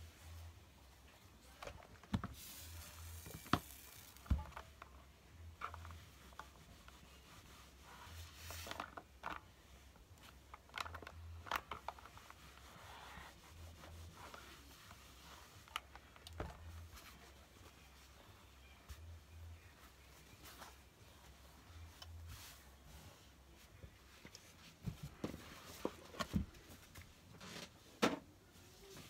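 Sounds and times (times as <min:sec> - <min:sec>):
objects rubbed and moved: 0:02.3 - 0:04.8, 0:05.5 - 0:10.4, 0:11.7 - 0:27.9.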